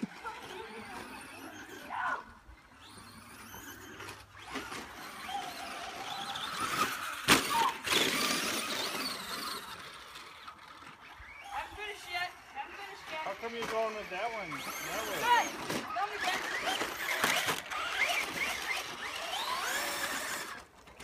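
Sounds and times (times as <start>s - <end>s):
rc cars whining: 0.0s - 21.0s.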